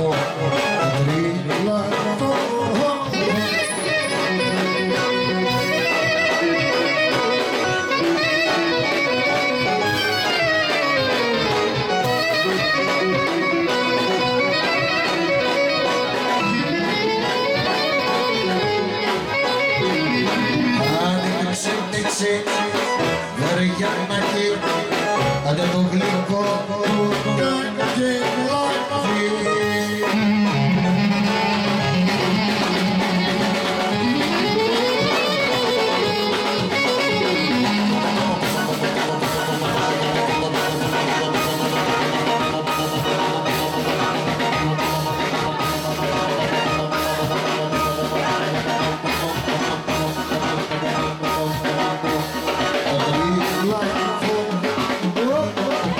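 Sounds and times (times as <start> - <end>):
steady drum beat: 0.0 - 28.9, 29.6 - 55.9
clarinet melody: 0.0 - 55.9
folk dance music: 0.0 - 55.9.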